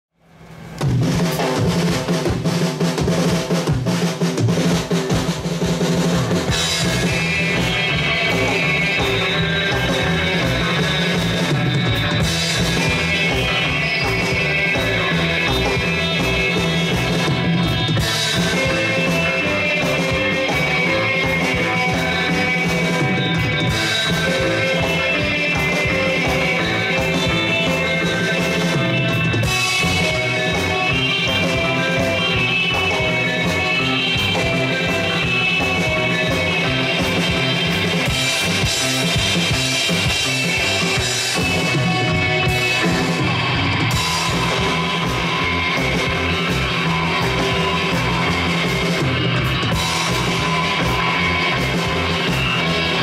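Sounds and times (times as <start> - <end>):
bass: 0.1 - 53.0
drum rolls: 0.2 - 53.0
electric guitar melody: 4.9 - 53.0.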